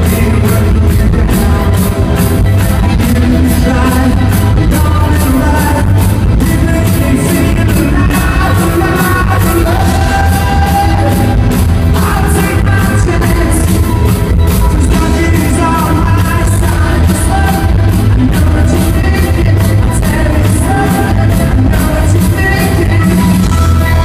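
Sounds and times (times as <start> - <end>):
lead singer: 0.0 - 24.0
pop-rock band playing: 0.0 - 24.0
steady drum beat: 0.0 - 24.0.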